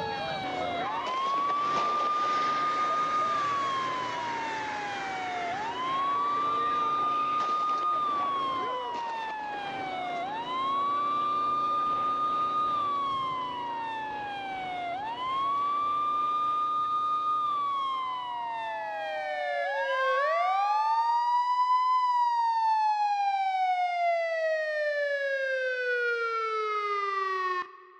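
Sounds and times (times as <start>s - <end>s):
police siren wailing: 0.0s - 27.9s.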